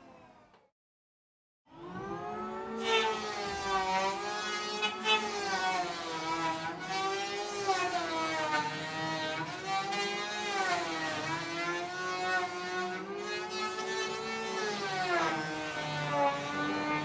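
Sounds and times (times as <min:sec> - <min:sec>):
electric hand planer whining: 0:01.7 - 0:17.0.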